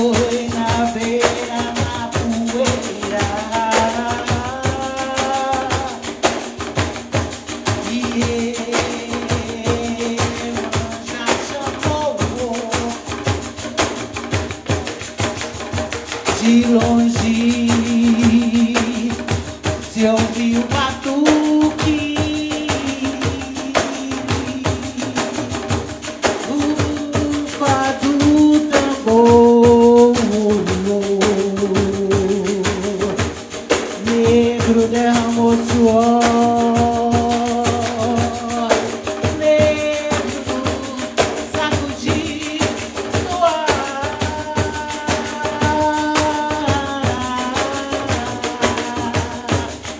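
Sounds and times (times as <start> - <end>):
frame drums with jingles: 0.0 - 49.9.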